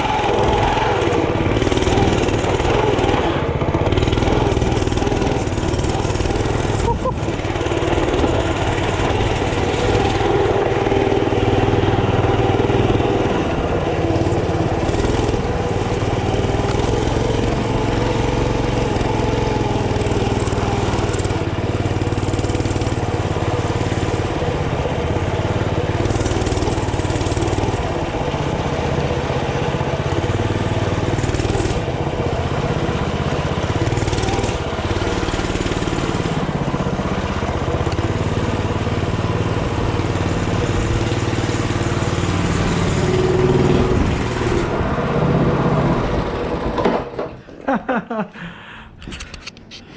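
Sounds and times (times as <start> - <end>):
small engine running: 0.0 - 47.6.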